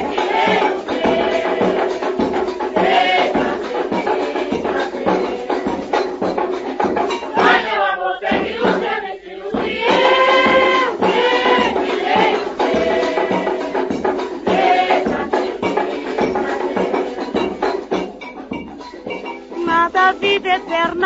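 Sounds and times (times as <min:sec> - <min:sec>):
samba percussion beat: 0:00.0 - 0:21.0.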